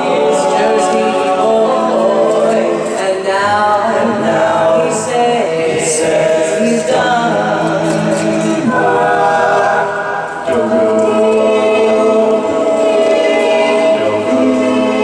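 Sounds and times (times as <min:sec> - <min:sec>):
vocal group singing chords: 0:00.0 - 0:15.0.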